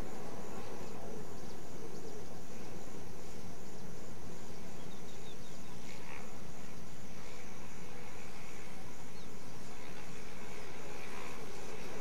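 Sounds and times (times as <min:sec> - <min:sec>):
model airplane engine buzz: 0:00.0 - 0:12.0
wind rumbling on microphone: 0:00.0 - 0:12.0.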